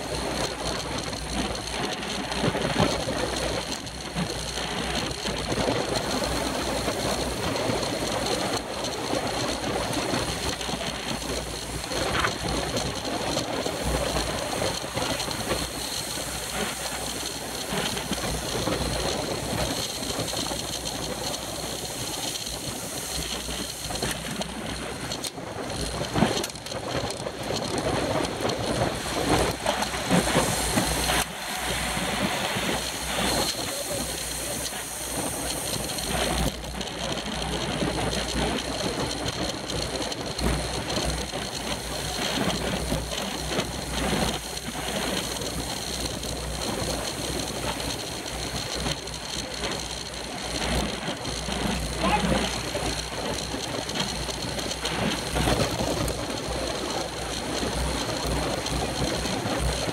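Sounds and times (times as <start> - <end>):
bicycle tyre and road noise: 0.0 - 59.9
wind rushing over microphone: 0.0 - 59.9.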